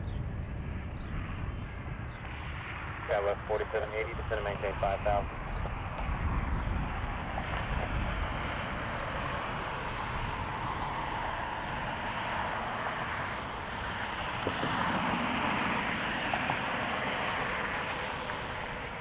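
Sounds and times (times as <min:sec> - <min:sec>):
jet engine noise: 0:00.0 - 0:19.0
wind rumbling on microphone: 0:00.0 - 0:19.0.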